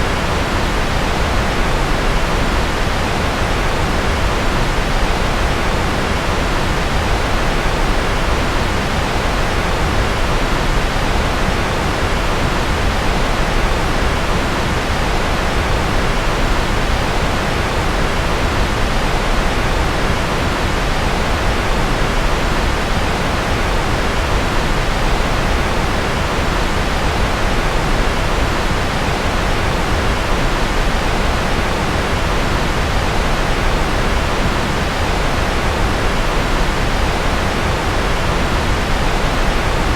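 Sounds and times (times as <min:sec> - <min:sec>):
rocket-style white noise: 0:00.0 - 0:39.9.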